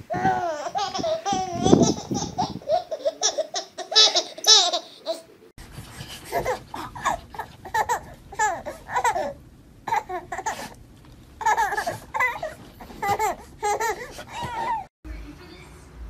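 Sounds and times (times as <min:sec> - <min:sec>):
baby laughing and squealing: 0:00.1 - 0:05.3, 0:06.3 - 0:10.8, 0:11.4 - 0:14.9.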